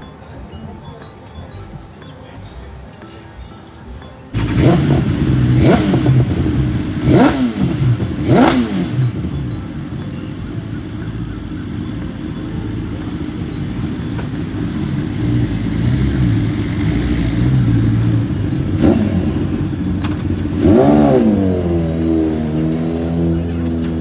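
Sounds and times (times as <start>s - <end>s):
motorcycle engine revving: 4.3s - 24.0s.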